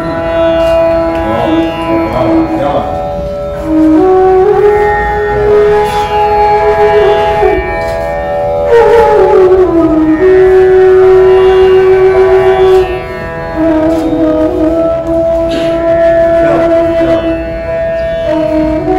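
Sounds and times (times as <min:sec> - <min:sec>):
bamboo flute melody: 0:00.0 - 0:18.9
steady drone: 0:00.0 - 0:18.9.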